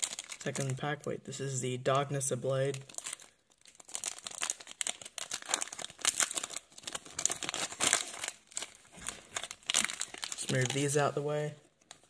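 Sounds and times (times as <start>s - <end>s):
foil wrapper crinkling: 0.0s - 0.8s, 2.7s - 12.0s.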